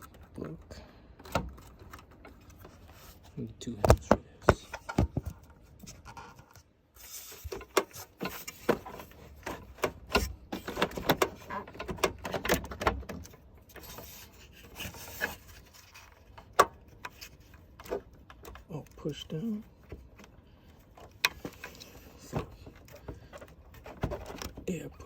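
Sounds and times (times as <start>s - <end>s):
plastic clicks and rubbing: 0.0s - 24.7s.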